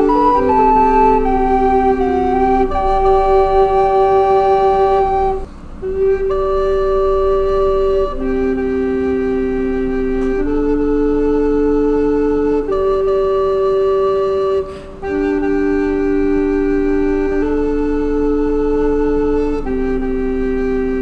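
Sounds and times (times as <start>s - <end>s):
slow flute-like wind music: 0.0s - 21.0s.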